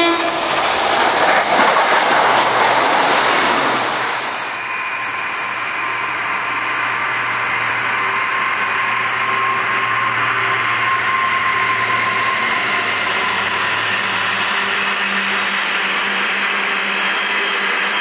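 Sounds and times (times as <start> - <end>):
diesel locomotive engine droning: 0.0 - 18.0
train wheels rolling over rails: 0.0 - 18.0.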